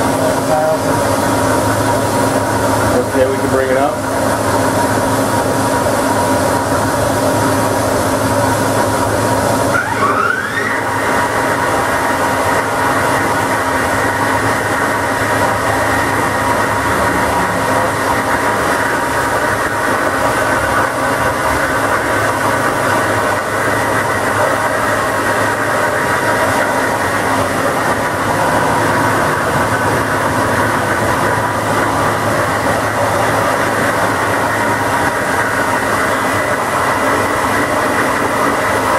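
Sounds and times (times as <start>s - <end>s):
machining center whine: 0.0s - 38.9s.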